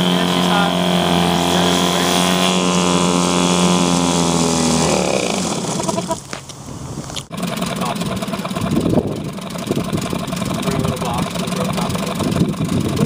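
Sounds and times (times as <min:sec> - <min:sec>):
outboard motor running: 0:00.0 - 0:06.4, 0:07.2 - 0:13.0.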